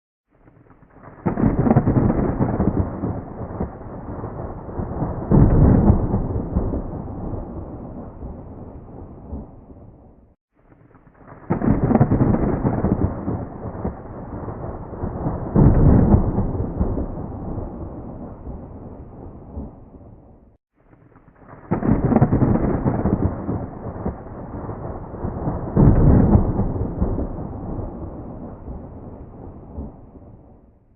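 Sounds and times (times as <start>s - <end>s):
crackling thunderclap: 0.3s - 30.9s
thunder rumbling: 0.4s - 30.9s.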